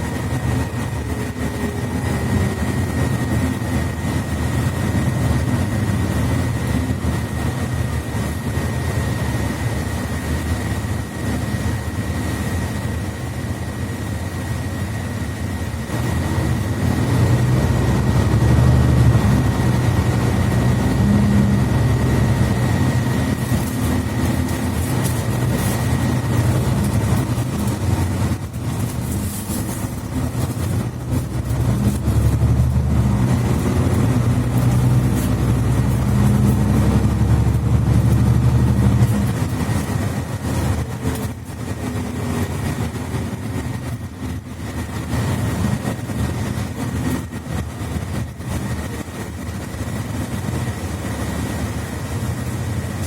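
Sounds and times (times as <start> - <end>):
thin high whine: 0.0 - 43.0
bus diesel engine drone: 0.0 - 53.0.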